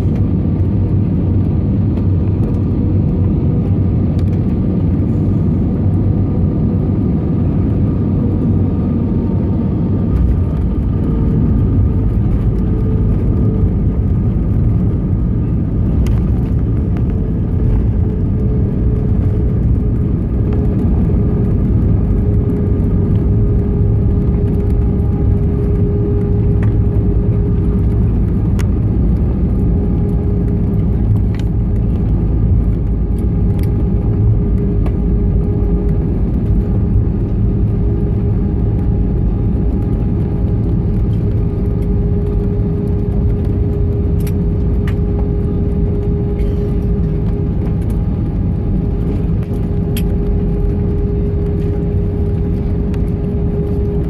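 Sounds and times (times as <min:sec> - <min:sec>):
engine and wheel rumble: 0:00.0 - 0:54.0
steady whine: 0:00.0 - 0:54.0.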